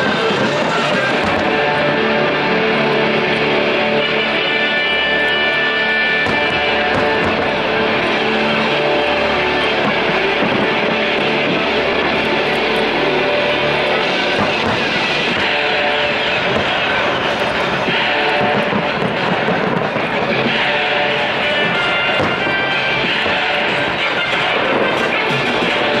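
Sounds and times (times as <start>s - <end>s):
guitar music: 0.0s - 26.0s.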